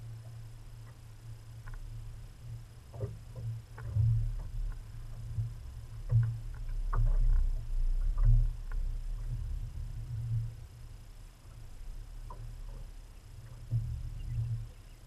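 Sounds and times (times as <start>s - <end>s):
low pulsing boat rumble: 0.0s - 15.0s.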